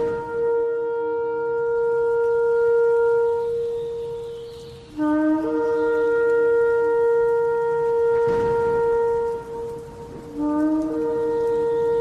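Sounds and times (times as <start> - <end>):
ram's horn blasts: 0.0 - 12.0.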